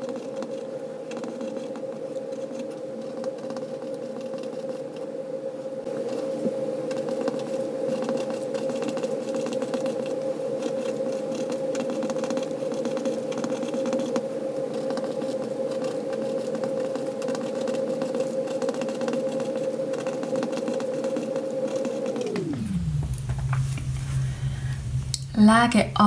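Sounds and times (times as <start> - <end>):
steady mid-pitched hum: 0.0 - 26.0.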